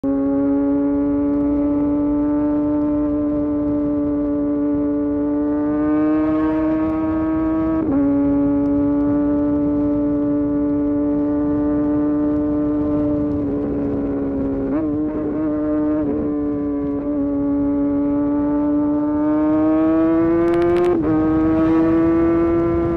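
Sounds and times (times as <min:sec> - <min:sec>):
motorcycle engine at speed: 0:00.0 - 0:22.9
wind and road noise: 0:00.0 - 0:22.9.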